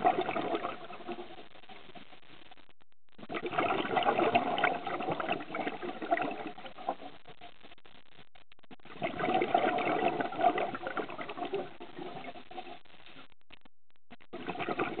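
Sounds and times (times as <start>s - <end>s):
underwater bubbles gurgling: 0.0s - 2.4s, 3.1s - 7.7s, 8.7s - 13.2s, 14.2s - 15.0s.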